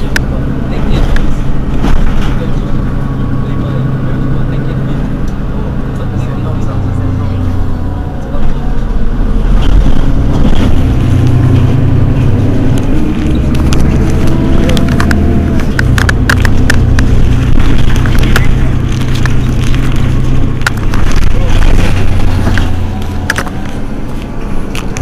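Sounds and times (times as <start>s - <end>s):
bus diesel engine idling: 0.0s - 25.0s.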